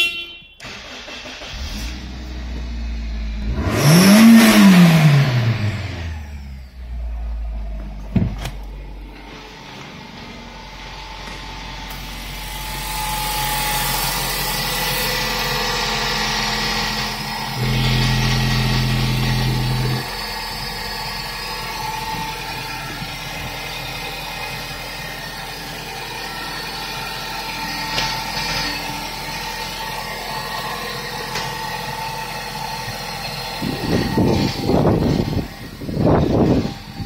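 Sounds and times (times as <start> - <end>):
car engine idling: 0.6 - 37.0.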